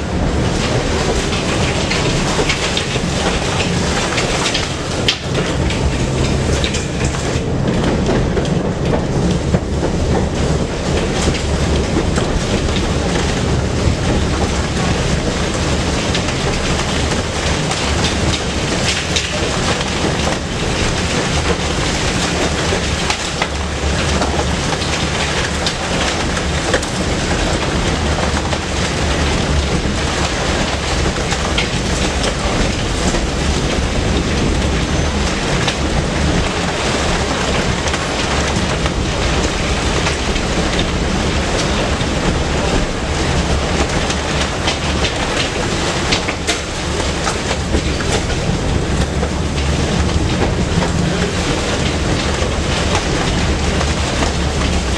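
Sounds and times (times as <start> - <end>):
tram wheels rumbling on rails: 0.0 - 54.9
wheels clicking over rail joints: 0.0 - 54.9.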